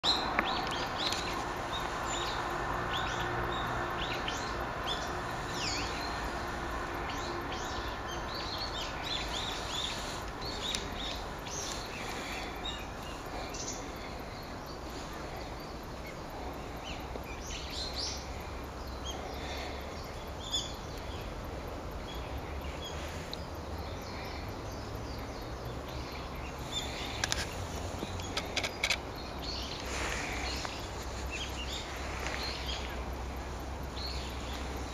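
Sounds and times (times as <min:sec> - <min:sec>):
background hiss: 0:00.0 - 0:34.9
songbirds chirping: 0:00.0 - 0:34.9.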